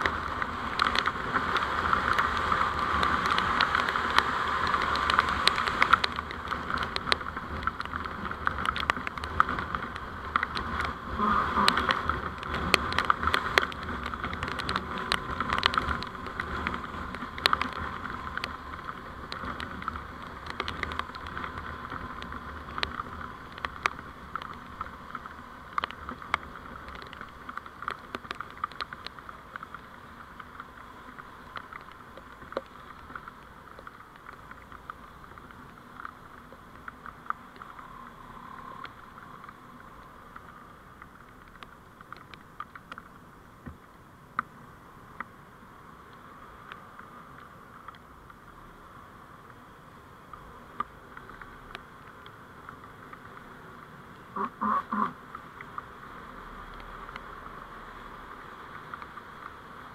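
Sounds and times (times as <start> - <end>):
sharp clicks and crackles: 0.0 - 45.4, 46.0 - 59.9
vehicle driving hum: 0.0 - 59.9.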